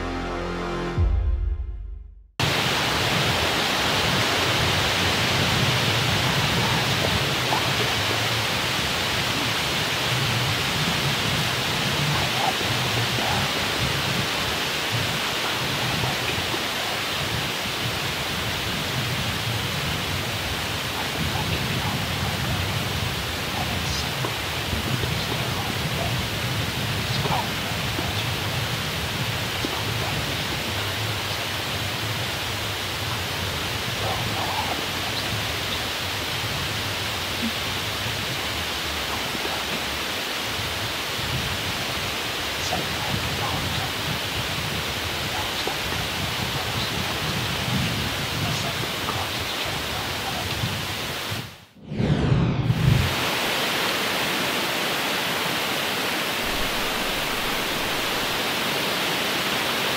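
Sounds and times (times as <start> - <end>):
wind buffeting microphone: 2.4 - 39.6, 40.5 - 53.3, 56.4 - 58.4
wind blowing through woods: 2.4 - 51.8, 52.7 - 59.9.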